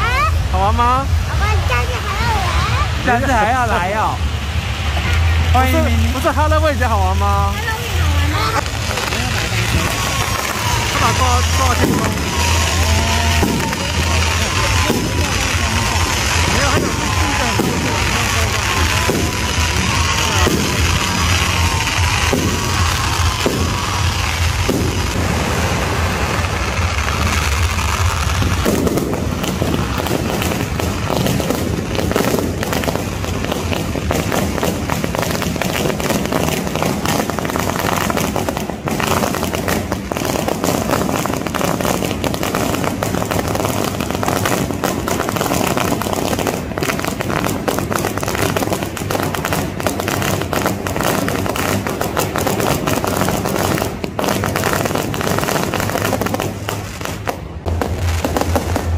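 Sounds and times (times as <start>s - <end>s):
firecrackers popping: 0.0s - 58.9s.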